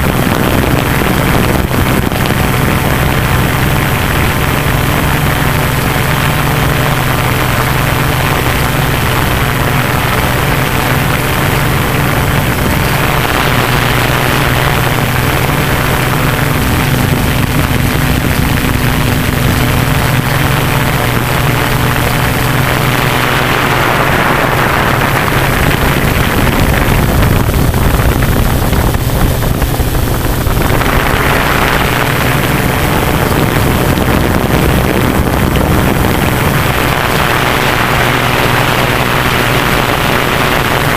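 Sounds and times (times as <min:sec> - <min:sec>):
drone motors humming: 0:00.0 - 0:40.9
rushing airflow: 0:00.0 - 0:40.9.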